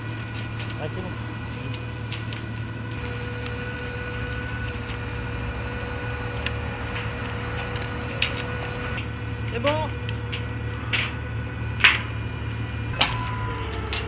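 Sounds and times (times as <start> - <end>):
low machine hum: 0.0 - 14.0
thin whine: 0.0 - 14.0.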